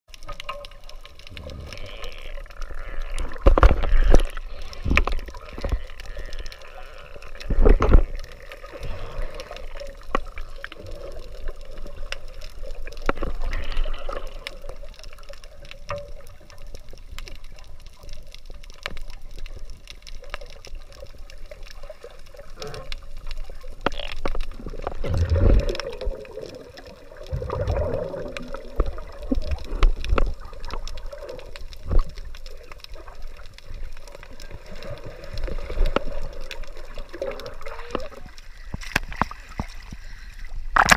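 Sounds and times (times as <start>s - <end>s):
underwater sloshing and gurgling: 0.1s - 40.9s.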